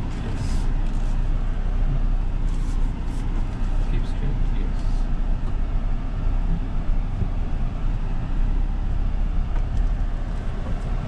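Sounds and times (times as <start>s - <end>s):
vehicle engine low rumble: 0.0s - 11.0s.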